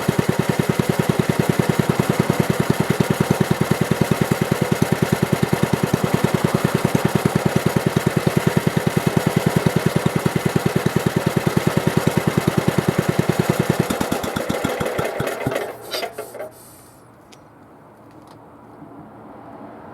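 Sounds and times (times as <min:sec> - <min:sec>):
engine rattles shutting down: 0:00.0 - 0:16.6.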